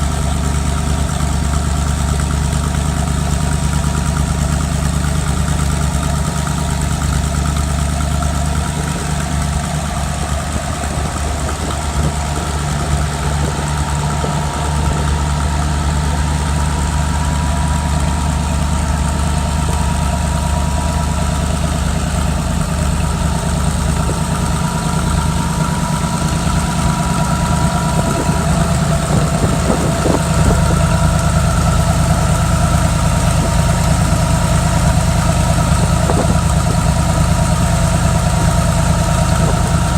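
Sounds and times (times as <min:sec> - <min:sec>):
engine running low drone: 0:00.0 - 0:39.9.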